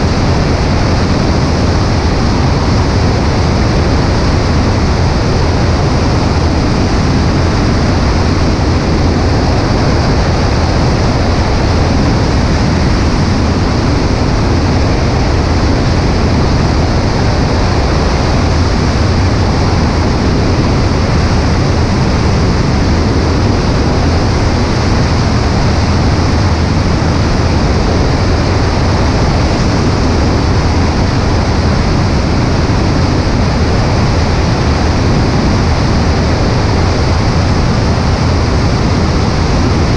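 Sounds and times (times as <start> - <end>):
airplane engine and propeller drone: 0.0 - 39.9
wind rushing over microphone: 0.0 - 39.9.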